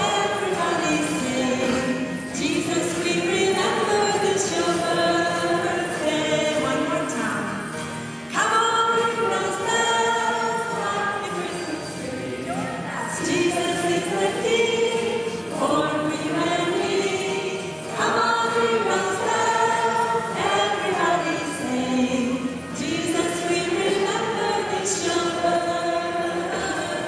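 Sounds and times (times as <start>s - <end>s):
children's choir singing: 0.0s - 27.0s.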